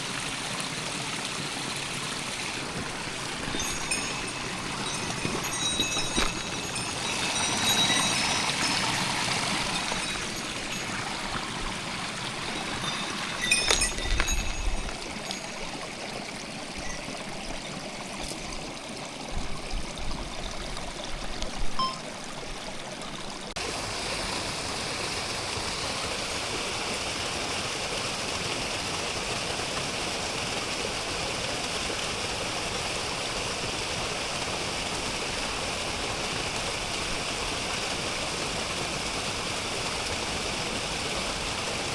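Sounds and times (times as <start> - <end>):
water rushing over rocks: 0.0 - 41.9.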